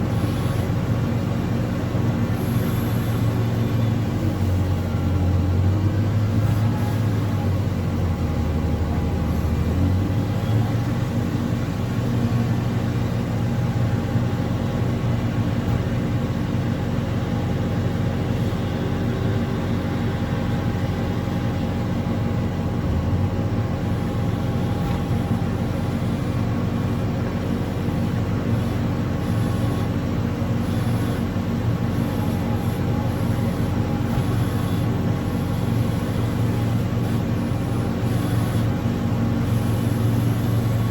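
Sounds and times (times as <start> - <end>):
earthmoving machine diesel engine: 0.0 - 40.9.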